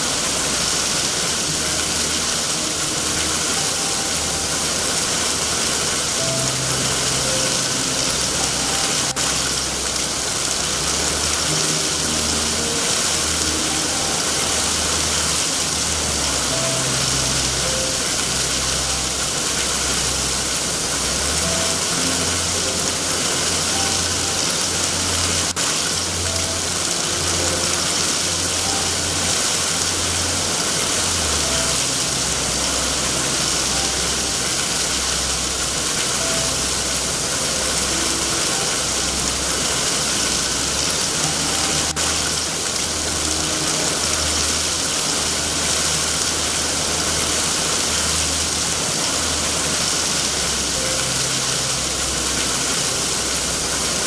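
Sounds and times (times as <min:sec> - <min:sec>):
heavy rain hiss: 0:00.0 - 0:54.0
low uneven rumble: 0:00.0 - 0:54.0.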